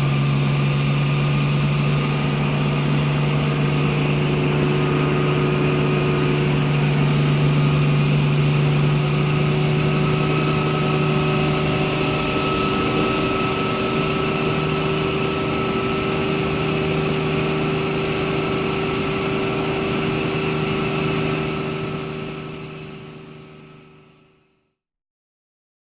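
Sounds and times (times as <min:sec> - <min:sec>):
helicopter engine and rotor drone: 0:00.0 - 0:24.4.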